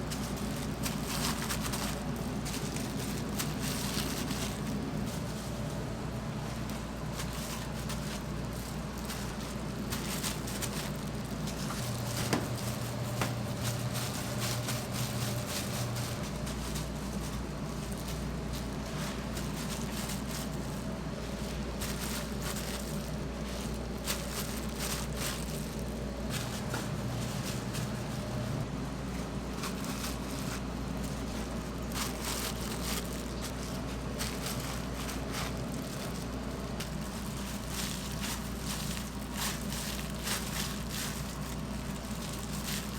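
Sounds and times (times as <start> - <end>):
low hum of kitchen equipment: 0.0 - 42.9
pork cutlets crackling and crunching: 0.0 - 42.9.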